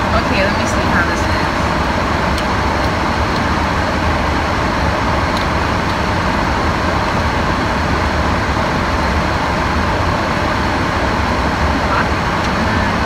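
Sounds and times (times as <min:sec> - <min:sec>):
car air conditioning blowing: 0:00.0 - 0:13.0.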